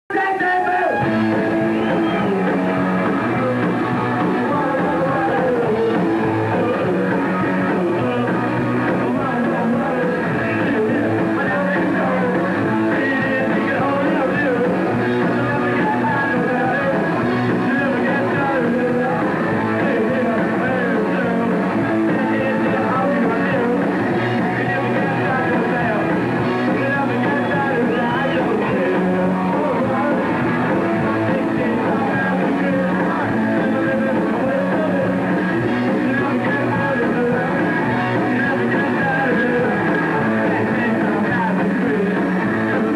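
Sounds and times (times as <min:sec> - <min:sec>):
bass guitar: 0:00.1 - 0:42.9
distorted electric guitar: 0:00.1 - 0:42.9
drums: 0:00.1 - 0:42.9
person singing into a microphone: 0:00.1 - 0:42.9.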